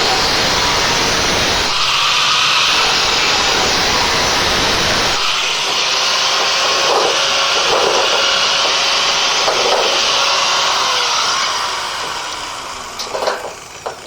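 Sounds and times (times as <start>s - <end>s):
angle grinder grinding metal: 0.0s - 14.0s.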